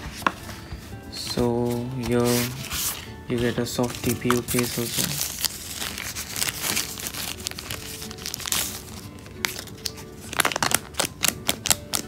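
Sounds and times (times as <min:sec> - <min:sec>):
packaging wrapper crinkling: 0:01.2 - 0:12.0.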